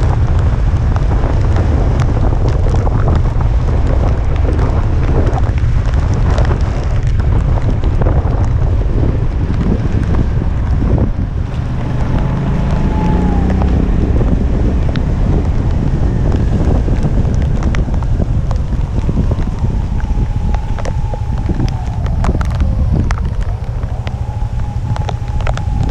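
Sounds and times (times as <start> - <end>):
rain ticking: 0.0 - 25.9
strong wind buffeting microphone: 0.0 - 25.9.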